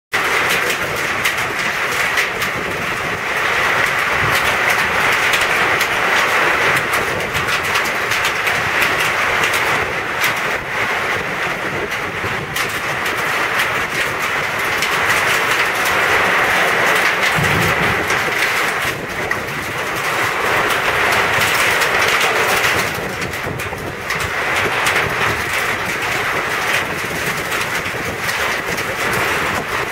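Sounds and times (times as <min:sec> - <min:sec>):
hail clattering: 0:00.2 - 0:29.9.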